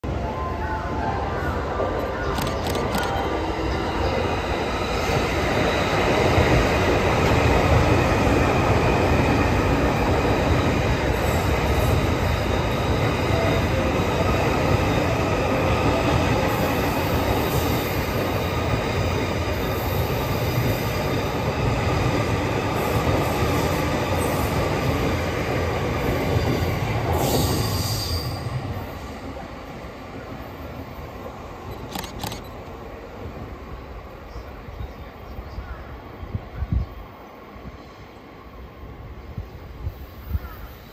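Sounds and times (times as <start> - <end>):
train wheels rolling on rail: 0.9 - 40.9.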